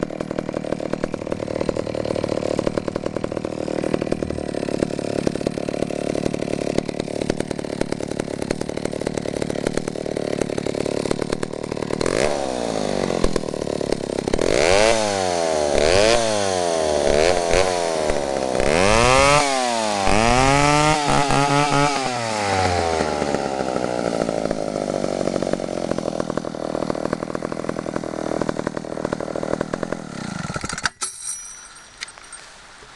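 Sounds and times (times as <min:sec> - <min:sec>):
chainsaw idling and revving: 0:00.0 - 0:31.0.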